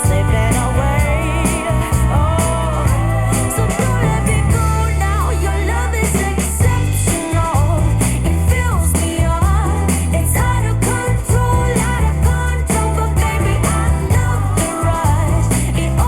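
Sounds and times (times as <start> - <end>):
heavy held bass notes: 0.0 - 16.0
pop-rock song with singing: 0.0 - 16.0.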